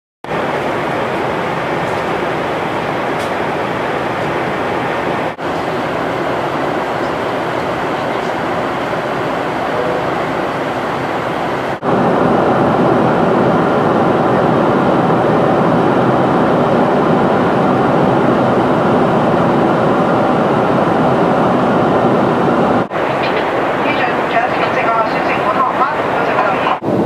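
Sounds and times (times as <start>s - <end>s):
airplane cabin noise: 0.2s - 27.0s.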